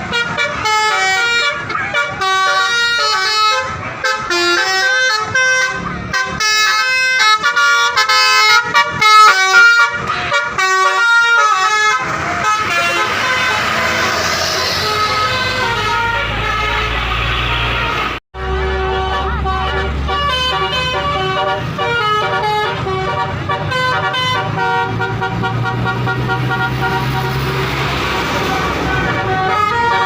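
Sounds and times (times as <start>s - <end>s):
bus horn playing a quick melody: 0.0s - 30.0s.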